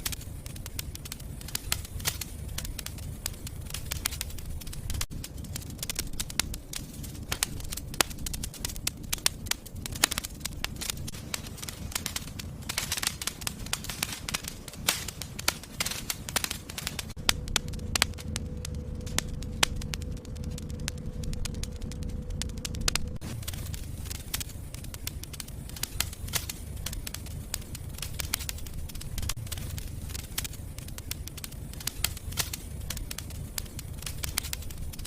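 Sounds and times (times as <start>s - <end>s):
faint steady hum: 0.0s - 35.0s
wood fire crackling: 0.0s - 35.0s.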